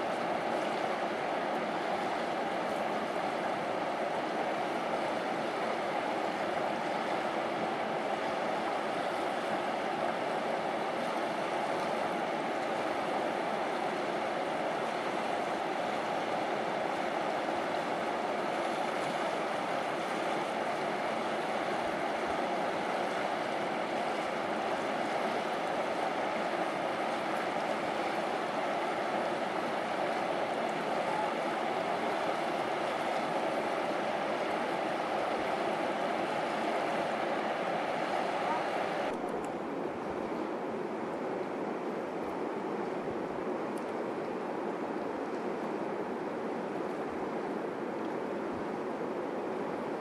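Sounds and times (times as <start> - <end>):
fast river rushing: 0.0 - 50.0.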